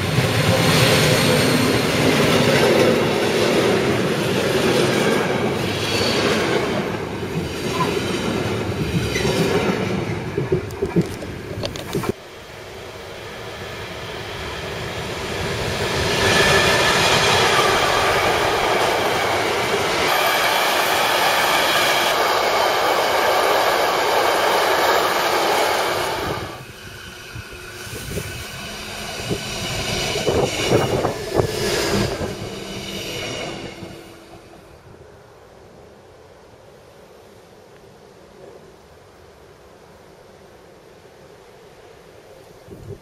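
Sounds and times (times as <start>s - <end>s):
freight train wheels rumbling on rail: 0.0s - 35.5s.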